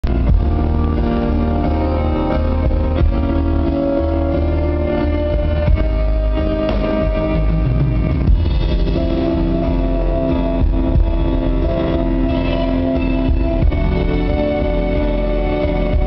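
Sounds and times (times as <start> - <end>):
heavy booming bass: 0.0 - 16.0
live band playing slow instrumental: 0.0 - 16.0.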